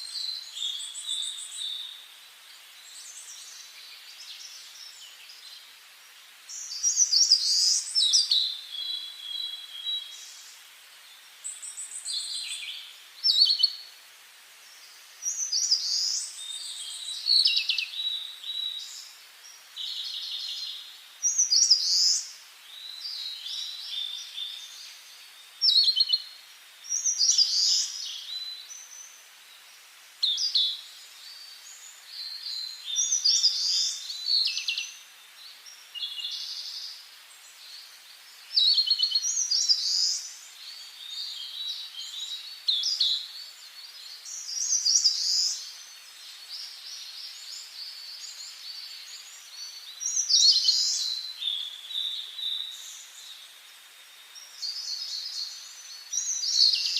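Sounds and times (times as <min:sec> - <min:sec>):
faint steady hiss: 0:00.0 - 0:56.9
songbirds singing: 0:00.0 - 0:56.9.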